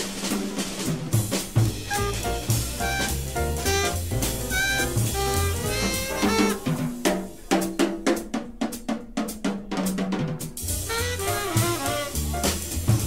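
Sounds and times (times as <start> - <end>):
jazz drum kit break: 0.0 - 13.0
swing band with double bass: 0.0 - 13.0.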